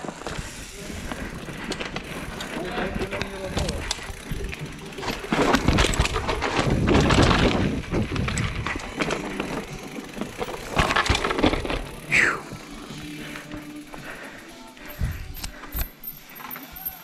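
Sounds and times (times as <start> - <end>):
tyres crunching over dirt and rock: 0.1 - 14.1
bike clattering and knocking: 0.1 - 14.2.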